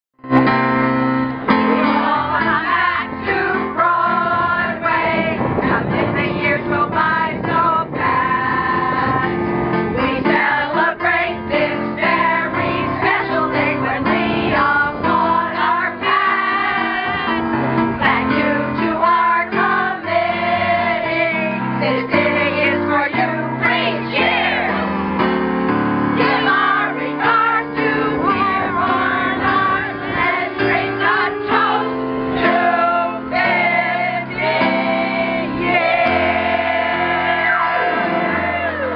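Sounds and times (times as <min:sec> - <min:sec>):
electric keyboard chords: 0:00.2 - 0:38.9
women singing together: 0:01.6 - 0:25.0, 0:26.2 - 0:38.9.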